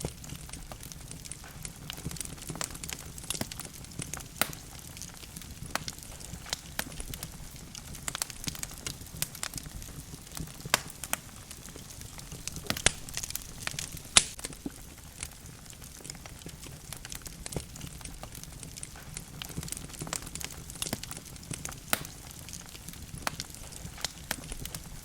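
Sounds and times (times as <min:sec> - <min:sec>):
fire crackling and popping: 0:00.0 - 0:25.0
low fire background noise: 0:00.0 - 0:25.0.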